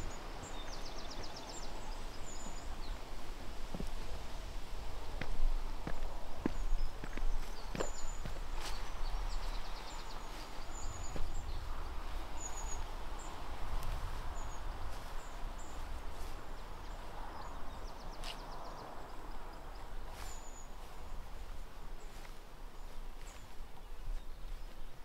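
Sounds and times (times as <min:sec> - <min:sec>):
outdoor background hiss: 0:00.0 - 0:25.0
songbirds chirping: 0:00.0 - 0:25.0.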